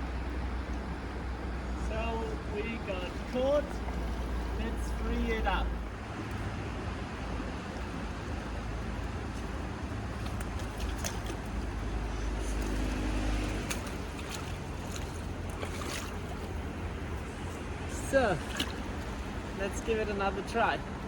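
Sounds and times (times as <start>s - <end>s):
stream flowing: 0.0s - 21.0s.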